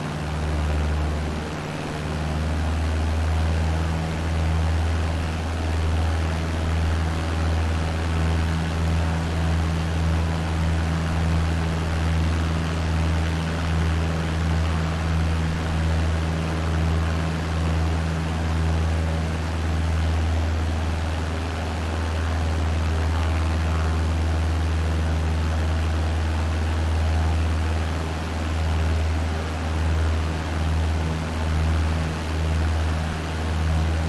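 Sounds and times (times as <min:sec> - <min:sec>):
propeller plane engine drone: 0:00.0 - 0:34.0.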